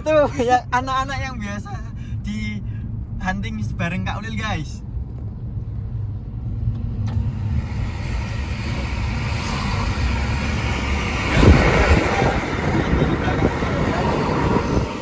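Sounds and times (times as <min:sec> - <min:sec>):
car cabin driving rumble: 0:00.0 - 0:15.0
street traffic noise: 0:00.0 - 0:15.0.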